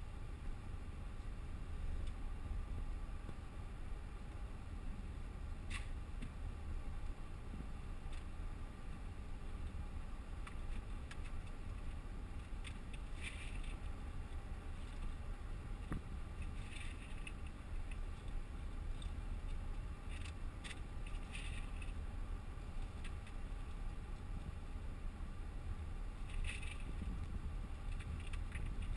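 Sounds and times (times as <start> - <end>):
car engine and tyres rumbling: 0.0 - 28.9
faint ticks and rustles: 0.0 - 28.9.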